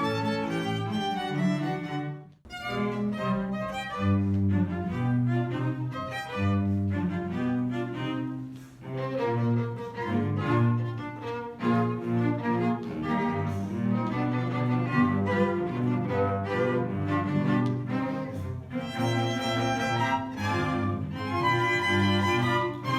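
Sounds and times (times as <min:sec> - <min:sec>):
bowed string ensemble: 0:00.0 - 0:22.9.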